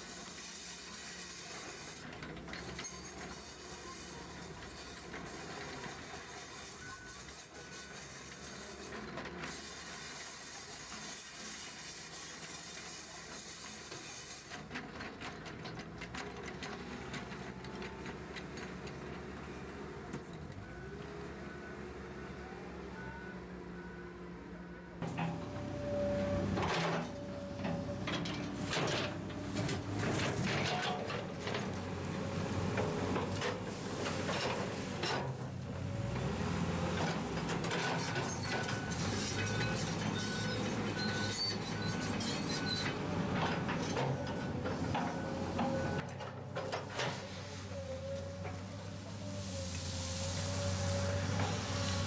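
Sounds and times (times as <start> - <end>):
wheel loader diesel engine: 0.0 - 52.0.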